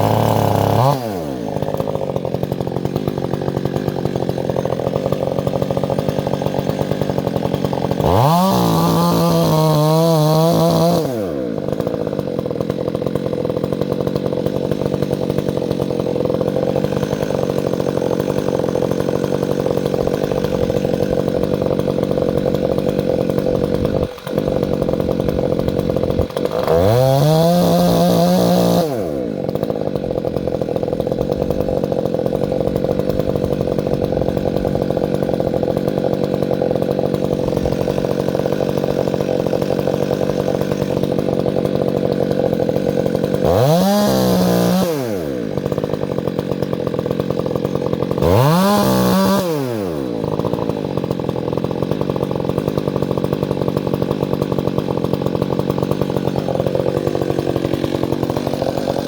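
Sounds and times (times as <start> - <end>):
chainsaw engine idling and revving: 0.0 - 59.0.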